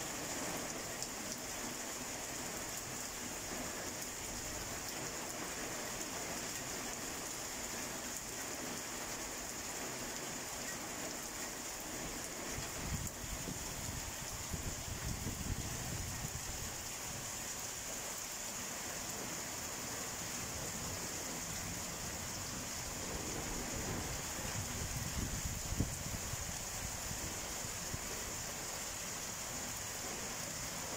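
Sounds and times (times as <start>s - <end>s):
heavy rain on paving and foliage: 0.0s - 30.9s.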